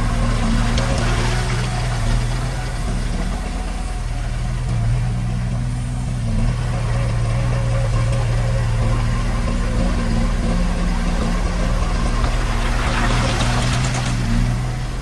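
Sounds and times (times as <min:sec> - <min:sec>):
bulldozer diesel engine idling: 0:00.0 - 0:15.0.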